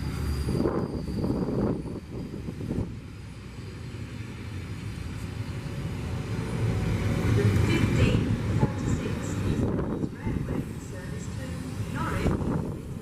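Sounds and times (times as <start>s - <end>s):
train rumbling through station: 0.0s - 13.0s.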